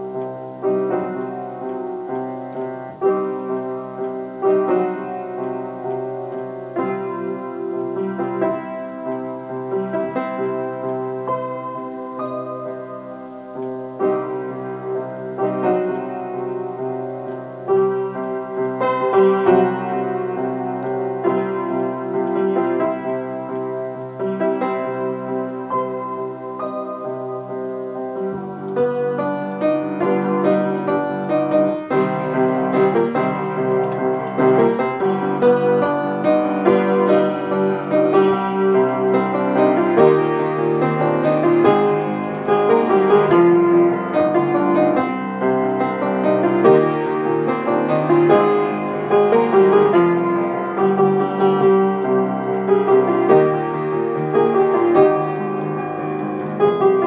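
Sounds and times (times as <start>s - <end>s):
upright piano playing chords: 0.0s - 57.0s.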